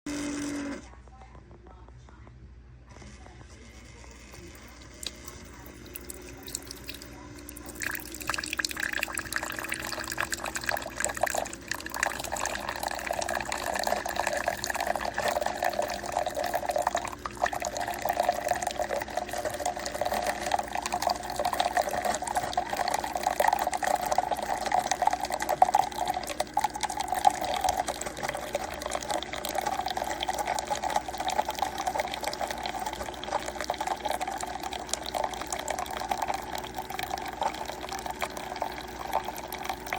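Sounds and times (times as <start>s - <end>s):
liquid pouring into container: 4.2s - 39.9s.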